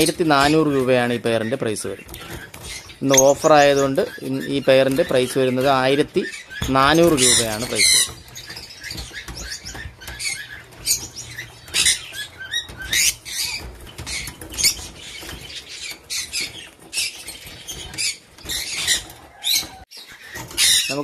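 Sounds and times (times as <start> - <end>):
lovebirds chirping: 0.0 - 21.0.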